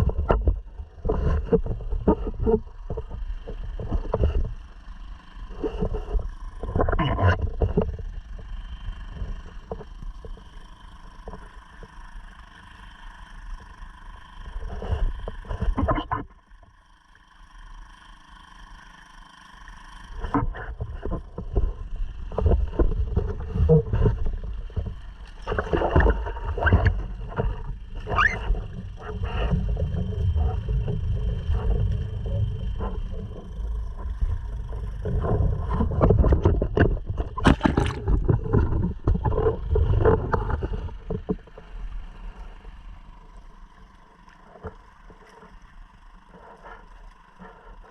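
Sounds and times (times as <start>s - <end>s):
water splashing against hull: 0.0s - 16.6s, 18.6s - 47.9s
outboard motor running: 0.0s - 47.9s.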